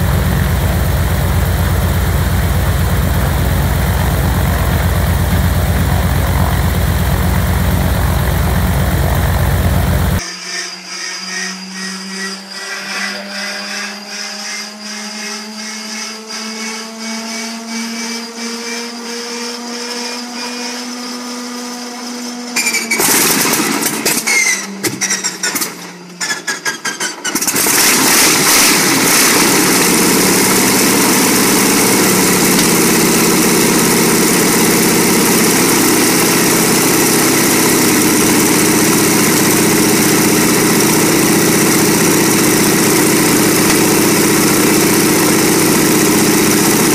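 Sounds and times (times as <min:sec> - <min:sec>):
inertia starter whining: 0:00.0 - 0:46.9
radial aircraft engine running: 0:00.0 - 0:46.9.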